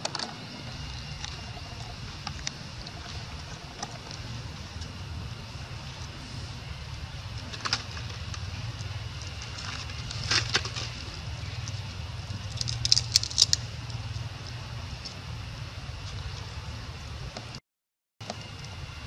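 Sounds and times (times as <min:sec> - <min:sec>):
steady low rumble: 0:00.0 - 0:17.6, 0:18.2 - 0:19.0.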